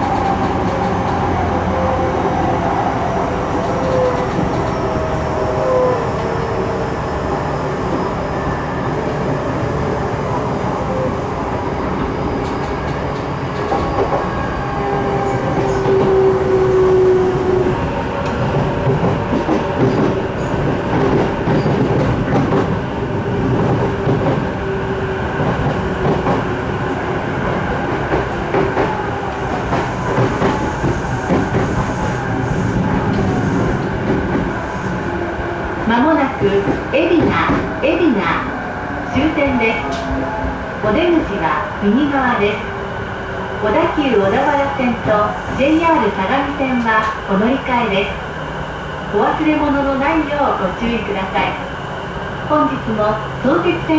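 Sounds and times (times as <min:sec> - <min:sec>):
train wheel and rail rumble: 0:00.0 - 0:53.9.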